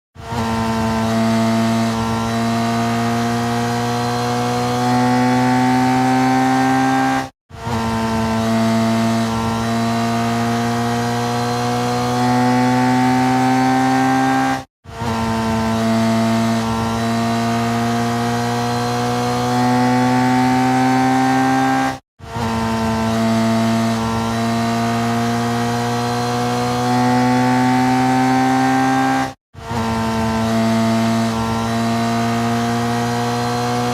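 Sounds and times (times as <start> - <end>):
motorcycle engine at high revs: 0.2 - 33.9.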